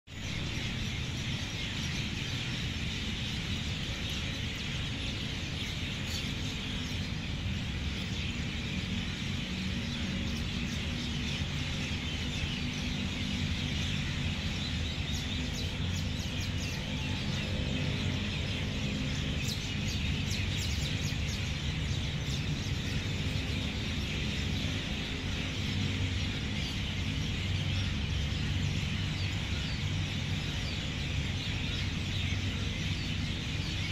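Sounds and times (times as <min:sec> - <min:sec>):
birds chirping in chorus: 0:00.1 - 0:33.9.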